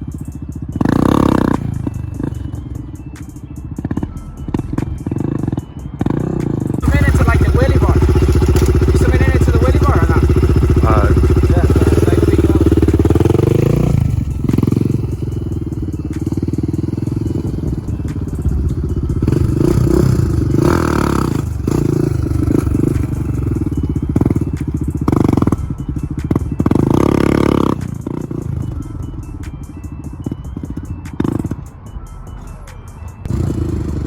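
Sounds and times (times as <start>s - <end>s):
quad engine revving: 0.0s - 2.7s, 3.8s - 31.6s, 33.3s - 34.0s.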